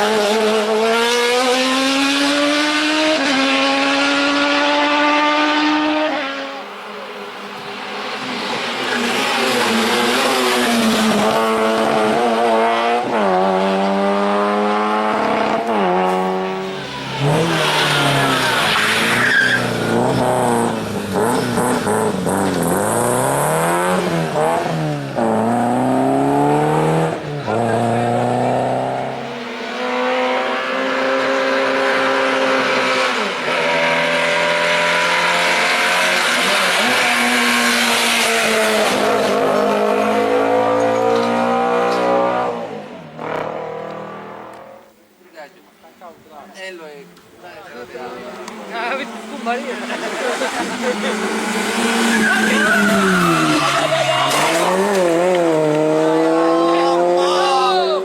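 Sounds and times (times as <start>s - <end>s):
car engine accelerating hard: 0.0s - 44.6s, 48.4s - 58.0s.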